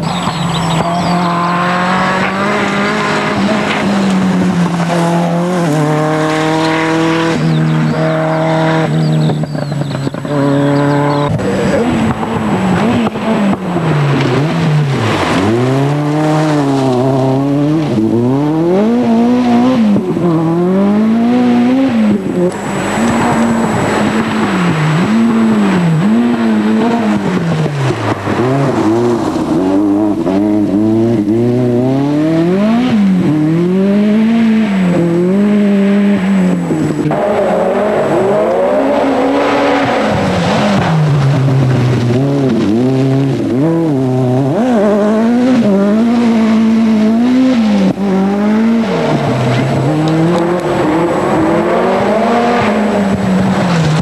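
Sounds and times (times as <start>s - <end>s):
rally car engine running hard: 0.0s - 54.0s.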